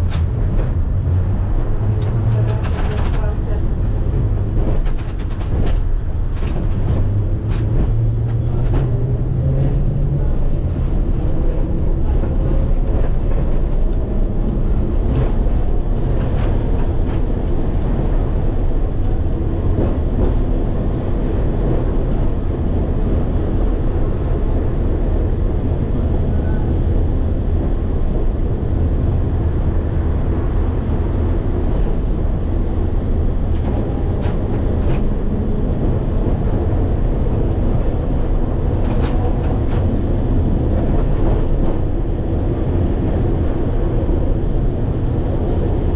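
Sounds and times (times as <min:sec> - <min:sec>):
tram motors and wheels rumbling: 0:00.0 - 0:45.9.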